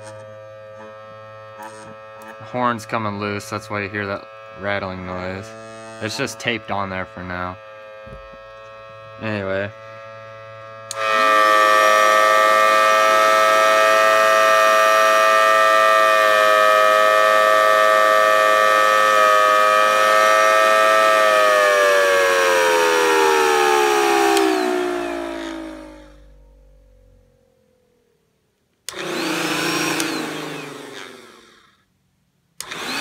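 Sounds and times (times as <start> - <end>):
loud steady siren tone: 0.0 - 31.6.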